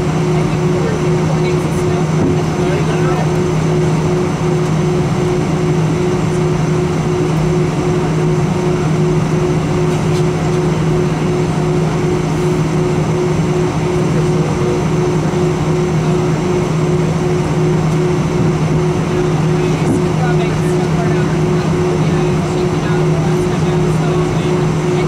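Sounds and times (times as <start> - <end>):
aircraft cabin drone: 0.0 - 25.0.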